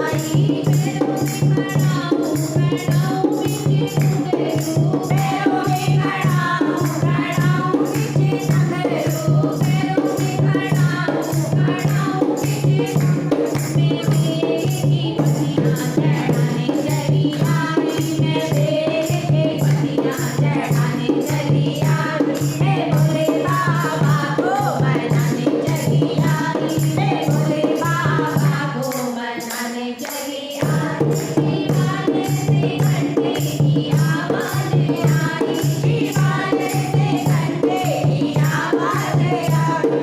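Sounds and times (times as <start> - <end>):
jingling hand percussion: 0.0 - 40.0
voices singing devotional song: 0.0 - 40.0.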